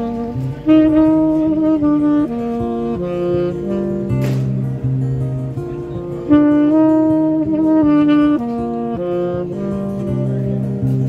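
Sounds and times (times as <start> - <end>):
saxophone melody: 0.0 - 11.0.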